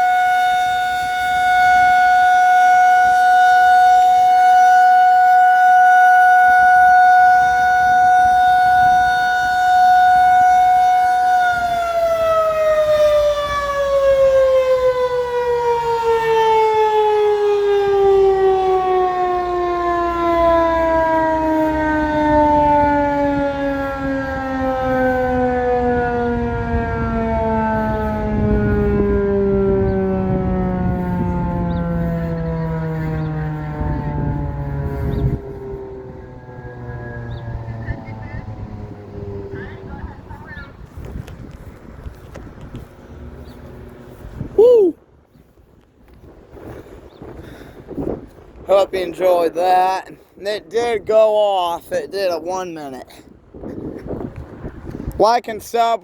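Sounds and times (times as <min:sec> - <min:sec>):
warning siren winding down: 0:00.0 - 0:45.0.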